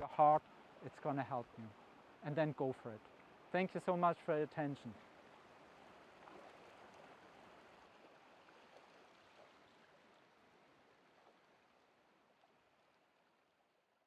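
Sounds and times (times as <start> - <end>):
faint creek water rushing: 0.0 - 14.0.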